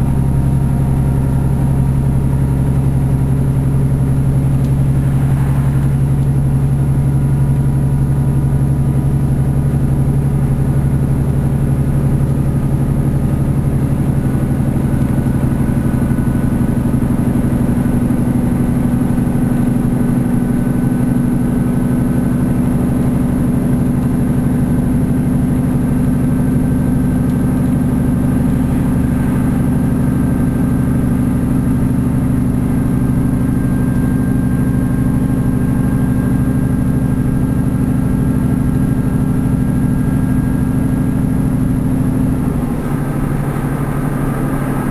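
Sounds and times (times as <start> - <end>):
train diesel engine running: 0.0 - 44.9
wheel and track rumble: 0.0 - 44.9.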